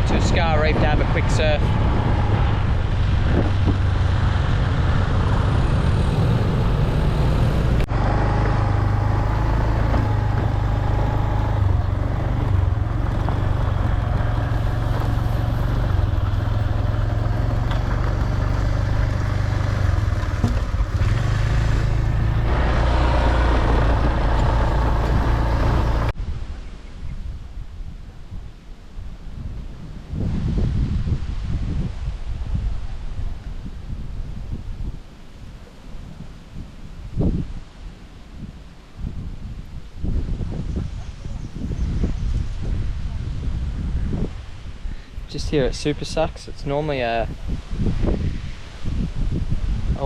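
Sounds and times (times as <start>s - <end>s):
vehicle engine and road drone: 0.0s - 26.6s, 31.3s - 50.0s.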